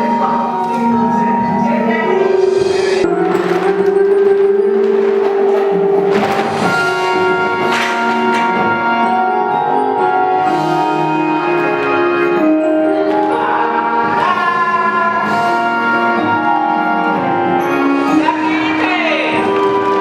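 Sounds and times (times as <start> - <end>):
wind band playing chords: 0.0 - 20.0.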